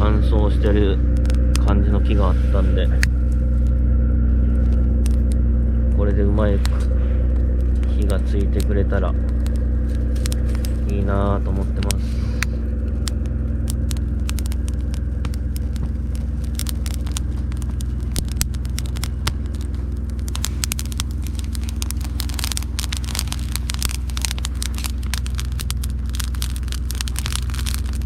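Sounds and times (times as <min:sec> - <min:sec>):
campfire crackling and snapping: 0:00.0 - 0:28.0
steady low hum: 0:00.0 - 0:28.0.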